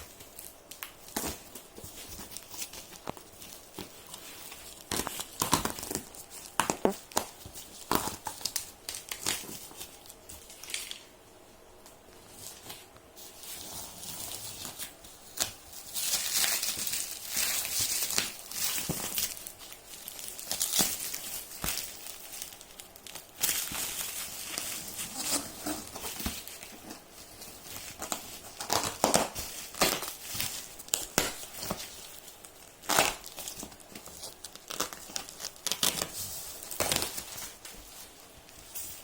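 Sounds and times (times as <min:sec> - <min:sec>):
packaging crinkling and tearing: 0:00.0 - 0:11.1, 0:12.2 - 0:39.0.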